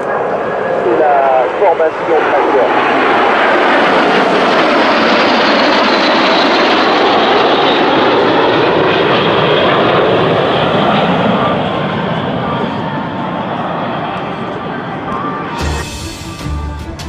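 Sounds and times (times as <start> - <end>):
jet aircraft flying past: 0.0 - 16.6.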